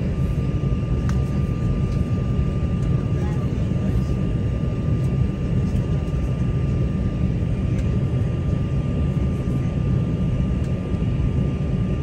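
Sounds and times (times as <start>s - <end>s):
jet engine low rumble: 0.0s - 12.0s.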